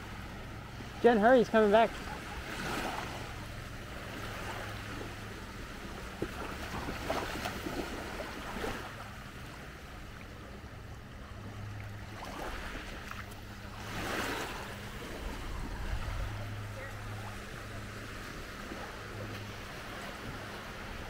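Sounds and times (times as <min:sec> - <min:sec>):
faint water splashes: 0:00.0 - 0:21.0
low steady rumble: 0:00.0 - 0:21.0
waves lapping at shore: 0:00.0 - 0:21.0.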